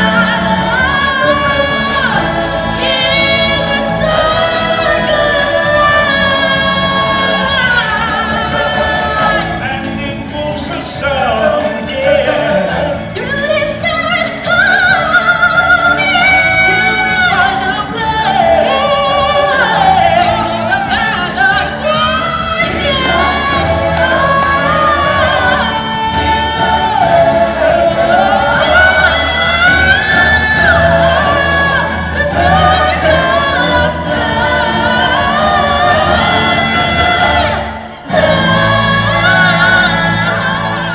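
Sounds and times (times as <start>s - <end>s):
voices singing together: 0.0s - 40.9s.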